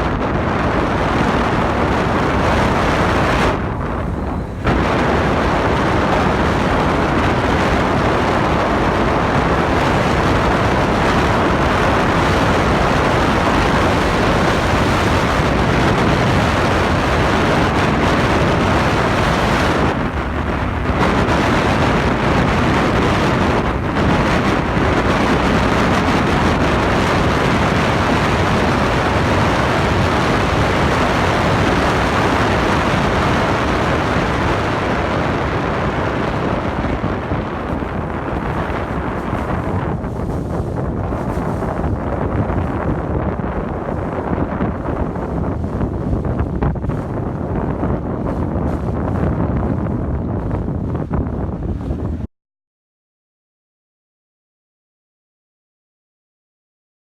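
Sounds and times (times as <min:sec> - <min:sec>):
wind buffeting microphone: 0:00.0 - 0:52.3
boat engine: 0:00.1 - 0:51.9.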